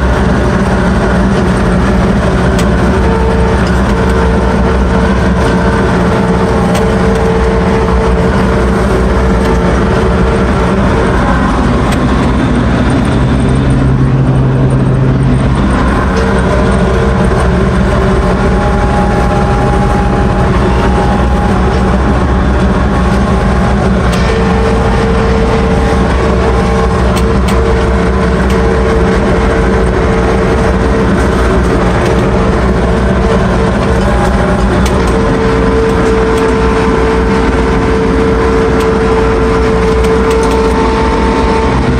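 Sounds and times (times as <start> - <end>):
mower diesel engine droning: 0.0 - 41.9
whining tones: 0.0 - 41.9.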